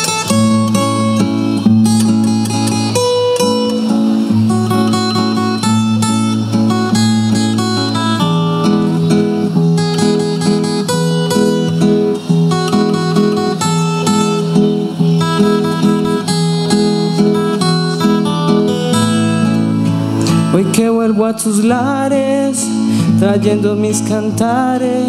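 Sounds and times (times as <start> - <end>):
acoustic guitars playing: 0.0 - 25.0.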